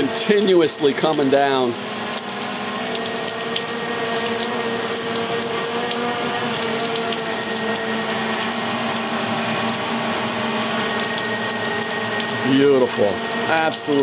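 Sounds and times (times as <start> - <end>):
drone propellers humming: 0.0 - 14.0
rain hissing: 0.0 - 14.0
raindrops ticking: 0.0 - 14.0.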